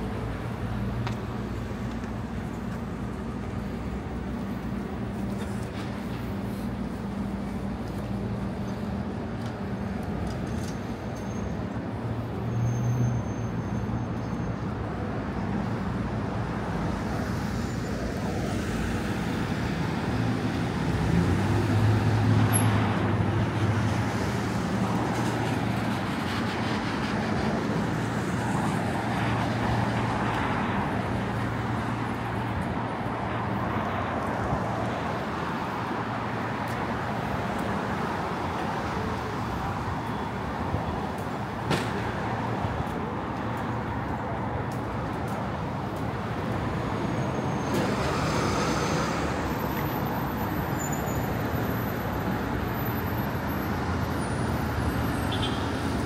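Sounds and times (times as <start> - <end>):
cars passing: 0.0 - 56.0
road noise: 0.0 - 56.0.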